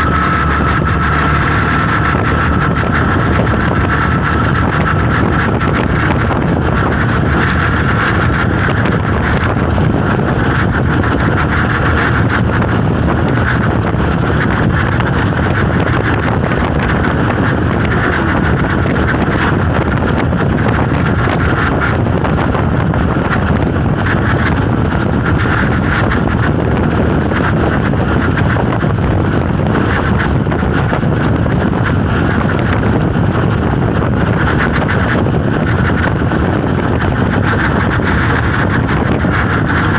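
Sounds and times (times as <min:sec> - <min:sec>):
vehicle engine and tyre noise: 0:00.0 - 0:39.9
wind buffeting microphone: 0:00.0 - 0:39.9.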